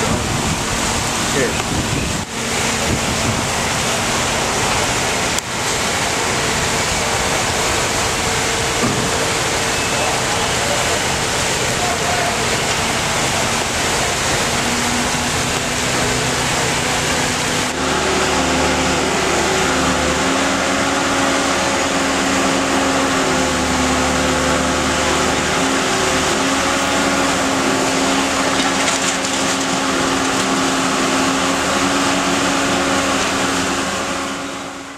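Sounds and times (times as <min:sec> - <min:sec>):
diesel engine rumbling: 0:00.0 - 0:34.9
fire hose streams rushing: 0:00.0 - 0:34.9.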